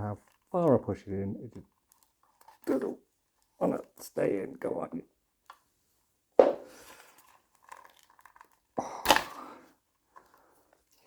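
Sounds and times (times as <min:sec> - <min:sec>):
faint crinkling and rustling: 0:00.0 - 0:04.5, 0:05.3 - 0:11.0.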